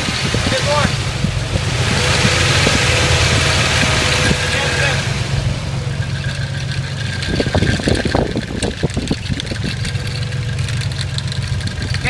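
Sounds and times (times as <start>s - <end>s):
car engine running with rattle: 0.0s - 12.0s.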